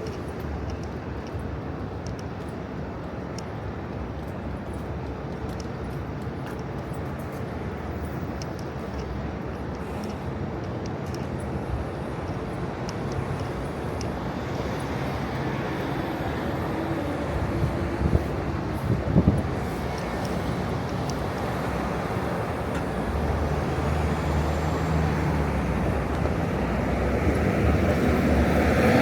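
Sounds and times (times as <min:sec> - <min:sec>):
city street traffic rumble: 0:00.0 - 0:29.0.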